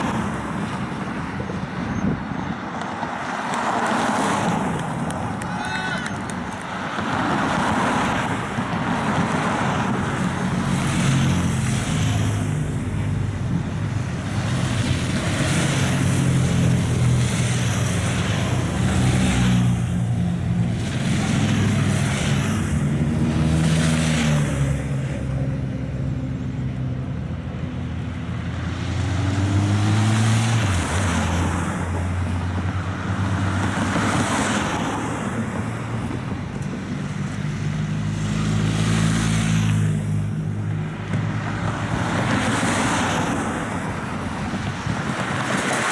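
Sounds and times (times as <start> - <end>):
motorcycles and cars passing: 0.0 - 45.9.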